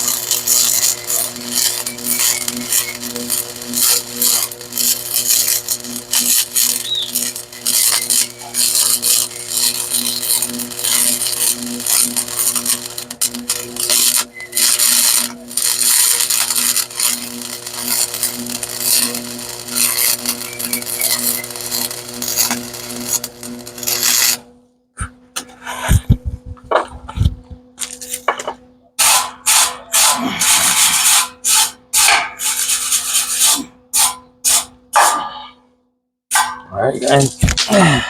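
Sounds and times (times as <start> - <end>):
welding arc crackling: 0.0 - 35.2, 36.3 - 38.0.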